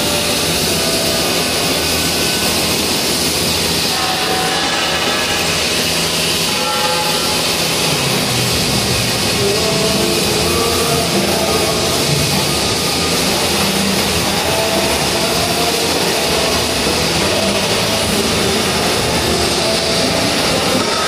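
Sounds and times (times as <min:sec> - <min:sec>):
welding arc hissing: 0:00.0 - 0:21.0.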